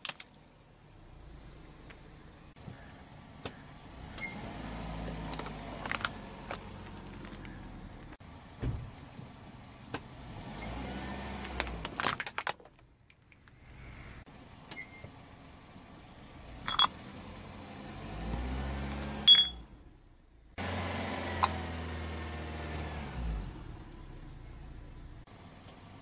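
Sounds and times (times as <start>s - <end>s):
car engine running at low speed: 0.2s - 12.2s, 13.5s - 26.0s.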